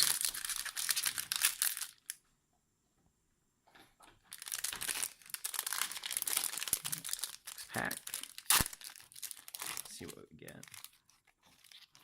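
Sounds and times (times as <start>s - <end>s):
foil wrapper crinkling and tearing: 0.0s - 2.2s, 4.3s - 12.0s.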